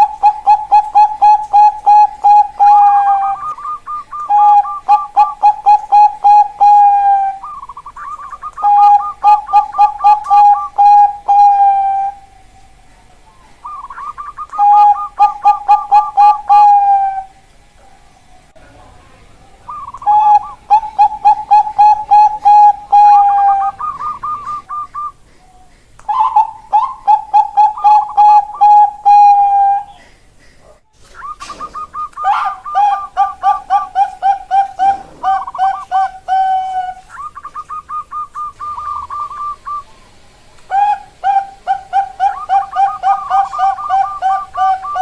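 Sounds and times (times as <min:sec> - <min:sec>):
dove cooing song: 0:00.0 - 0:18.6, 0:19.5 - 0:45.0.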